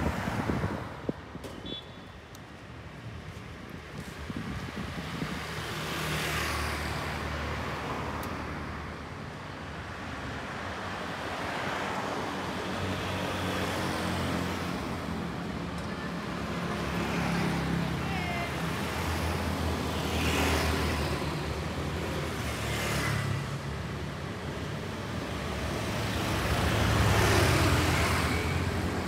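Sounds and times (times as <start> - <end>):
vehicles going past: 0.0 - 29.0.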